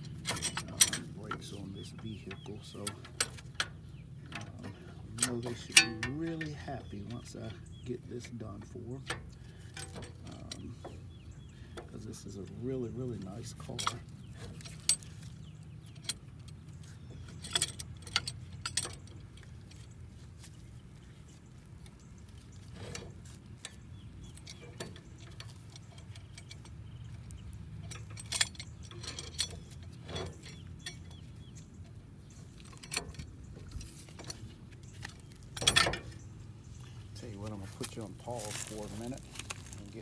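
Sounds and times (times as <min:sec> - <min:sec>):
metal tools clinking: 0:00.1 - 0:19.9, 0:22.7 - 0:36.3, 0:37.4 - 0:40.0.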